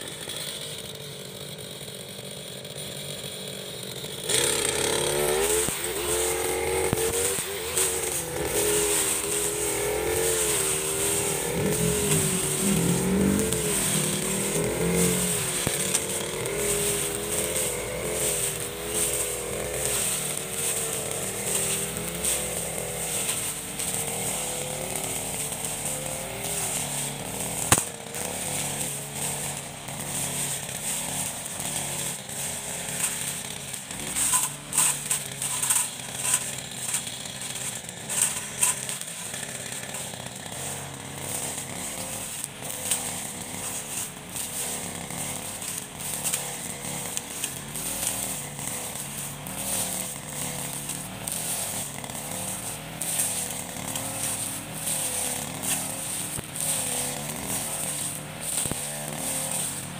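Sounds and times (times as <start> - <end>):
brush cutter cutting grass: 0.0 - 59.9.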